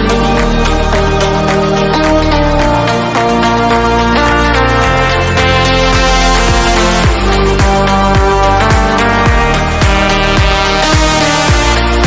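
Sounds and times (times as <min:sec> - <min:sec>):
synth music with steady beat: 0:00.0 - 0:12.0.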